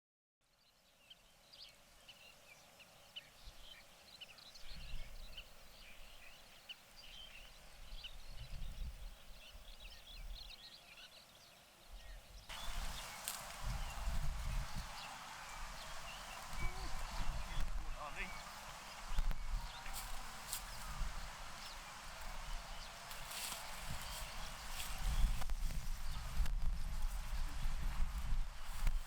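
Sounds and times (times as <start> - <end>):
small birds chirping: 0.5 - 29.0.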